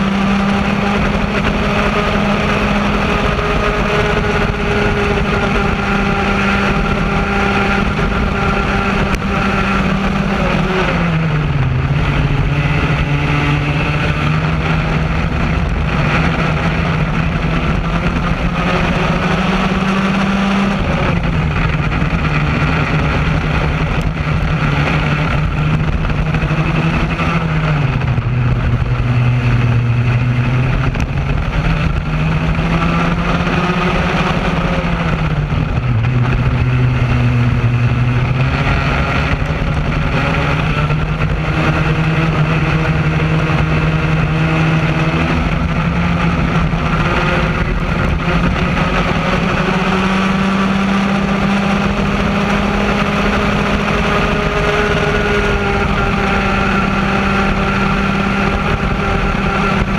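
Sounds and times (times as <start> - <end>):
kart engine at race speed: 0.0 - 59.9.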